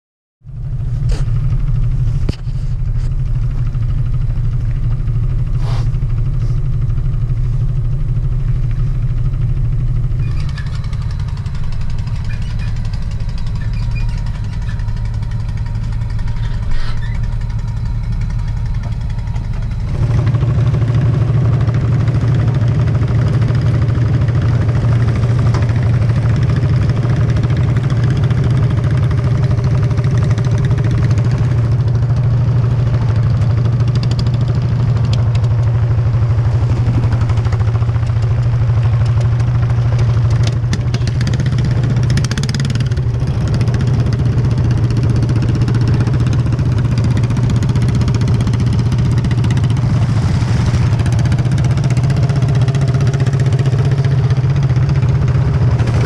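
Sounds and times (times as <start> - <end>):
engine idling: 0.4 - 56.0.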